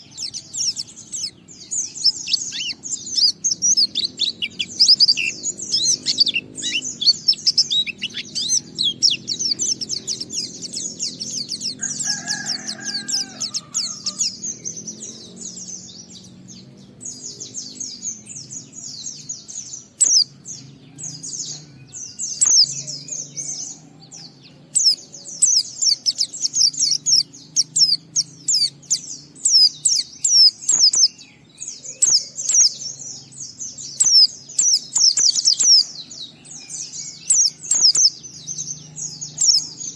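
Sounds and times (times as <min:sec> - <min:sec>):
bird twittering warble: 0:00.0 - 0:39.9.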